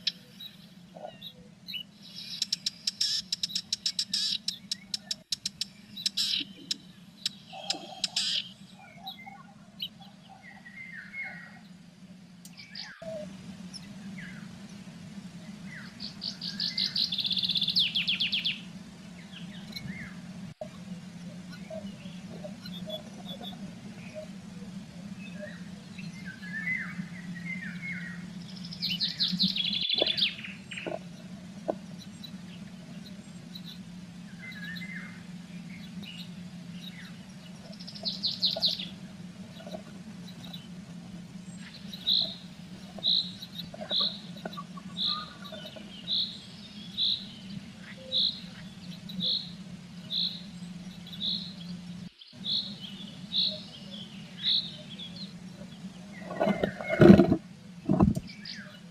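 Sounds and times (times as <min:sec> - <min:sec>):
low electrical hum: 0:00.0 - 0:58.9
songbirds singing high notes: 0:00.0 - 0:58.9.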